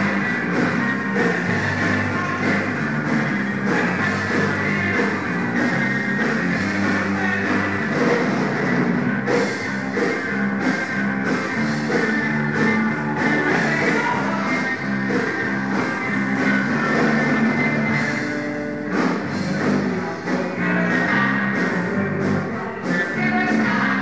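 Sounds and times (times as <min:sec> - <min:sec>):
drum kit cymbal and snare: 0:00.0 - 0:23.8
bass guitar: 0:00.0 - 0:24.0
electric guitar: 0:00.0 - 0:24.0.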